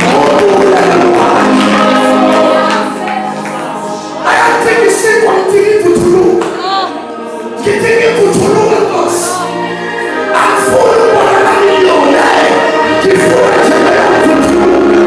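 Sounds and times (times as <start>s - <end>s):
congregation singing gospel song: 0.0s - 15.0s.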